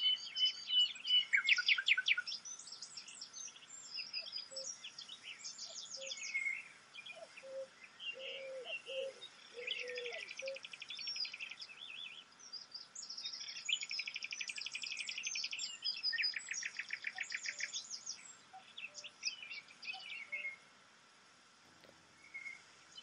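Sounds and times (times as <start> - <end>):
songbirds trilling and chirping: 0.0 - 23.0.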